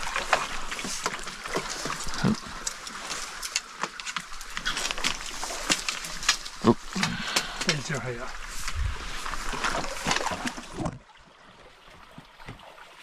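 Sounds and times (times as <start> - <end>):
stream water splashing and gurgling: 0.0 - 13.0.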